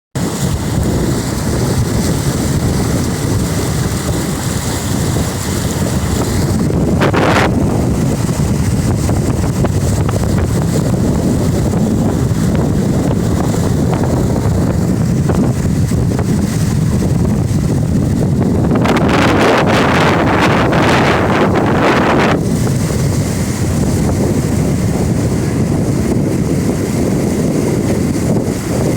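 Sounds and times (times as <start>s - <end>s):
steady low rumble: 0.2s - 28.9s
wind buffeting the microphone: 0.2s - 28.9s.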